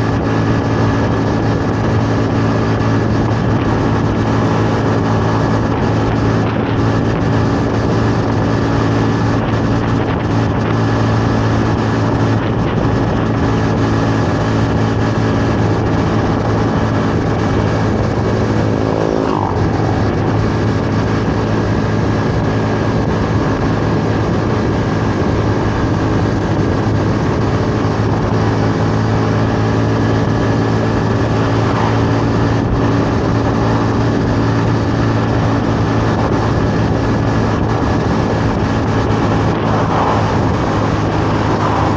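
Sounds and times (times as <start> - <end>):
motorcycle engine running: 0.0 - 41.9
road noise: 0.0 - 41.9
wind noise: 0.0 - 41.9.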